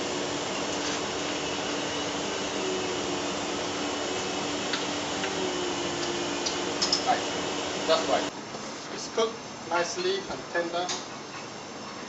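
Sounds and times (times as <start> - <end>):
fan whooshing hum: 0.0 - 11.4.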